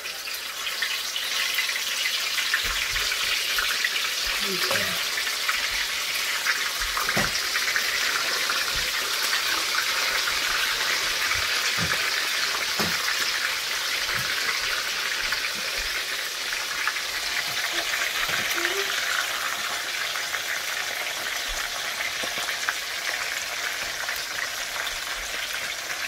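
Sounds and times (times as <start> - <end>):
oil sizzling in a frying pan: 0.0 - 26.0.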